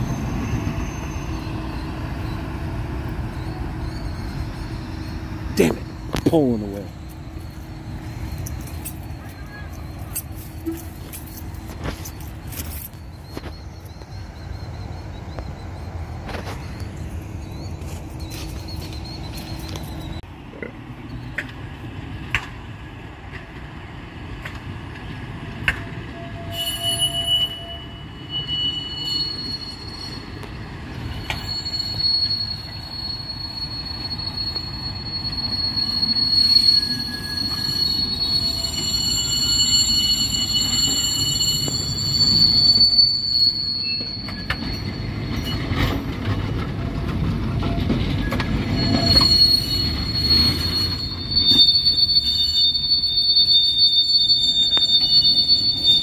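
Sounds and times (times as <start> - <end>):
trolley wheels squealing on rails: 0.0 - 20.3, 21.1 - 56.0
trolley rumble: 0.0 - 56.0.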